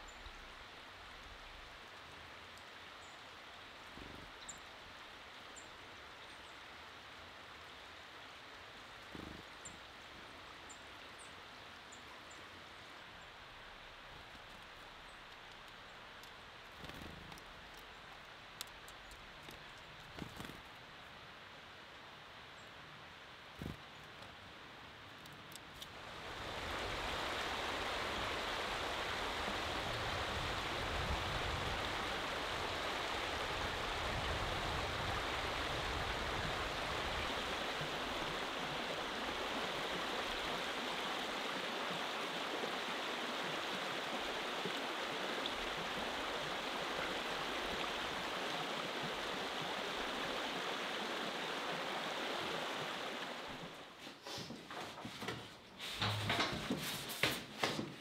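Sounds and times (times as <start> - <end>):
creek running over stones: 0.0 - 21.8, 23.4 - 54.0.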